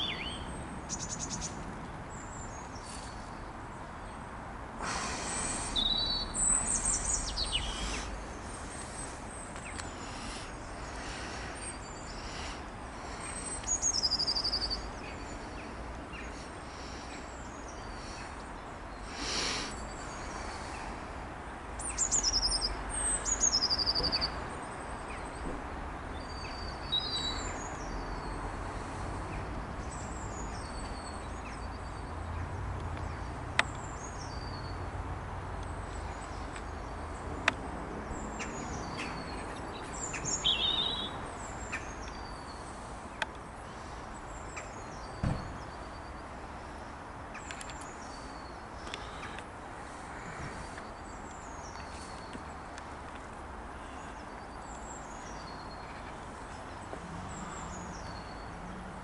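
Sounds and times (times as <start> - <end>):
small birds chirping: 0.0 - 4.2, 4.8 - 58.9.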